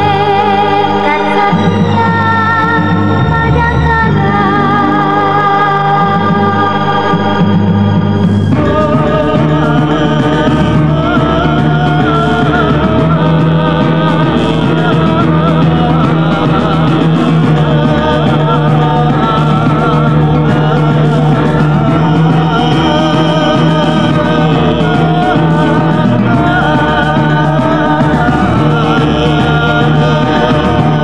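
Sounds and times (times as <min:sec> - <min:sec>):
low drone: 0:00.0 - 0:31.0
person singing: 0:00.0 - 0:31.0.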